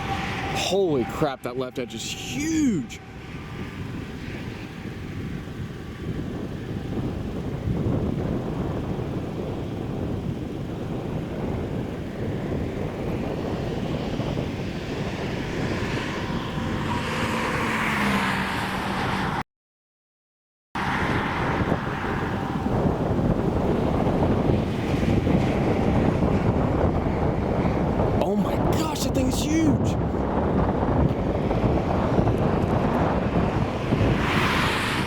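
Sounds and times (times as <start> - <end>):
strong wind buffeting microphone: 0.0 - 19.4, 20.8 - 35.0.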